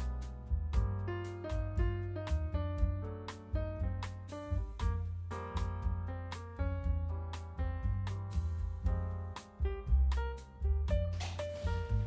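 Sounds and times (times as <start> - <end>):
instrumental music with bass: 0.0 - 12.0.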